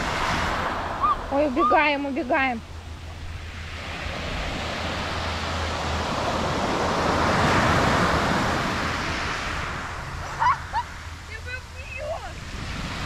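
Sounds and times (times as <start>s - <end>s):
small waves washing up shore: 0.0s - 13.0s.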